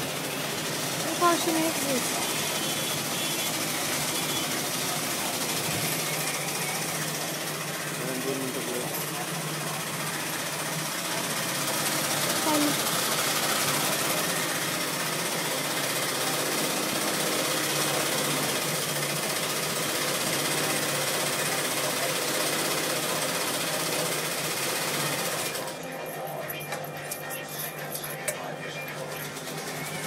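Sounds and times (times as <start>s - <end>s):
loud machine clatter: 0.0s - 30.0s.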